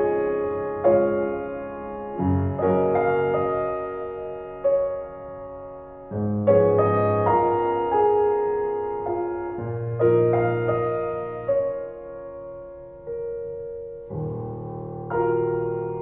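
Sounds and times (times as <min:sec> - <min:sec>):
slow gentle piano: 0:00.0 - 0:16.0.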